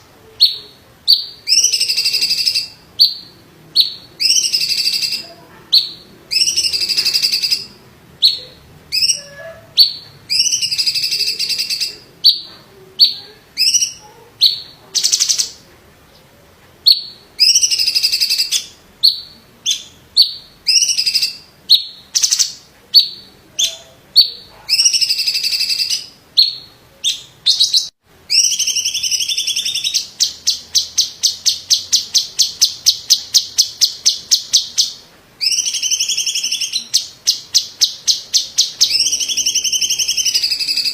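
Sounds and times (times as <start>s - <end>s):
rapid repeated bird notes: 0.0s - 40.9s
bird singing whistled phrases: 0.4s - 15.6s, 16.9s - 40.9s.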